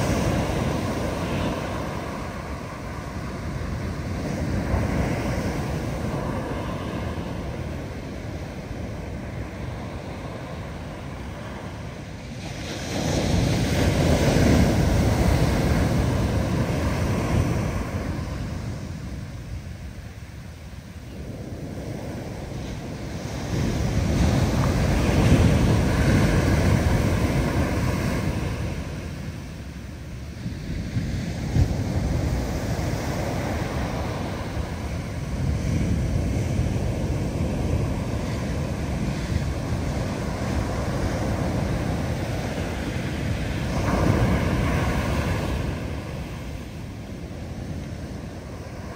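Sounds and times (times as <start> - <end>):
ocean waves breaking: 0.0 - 48.9
wind buffeting microphone: 0.0 - 48.9.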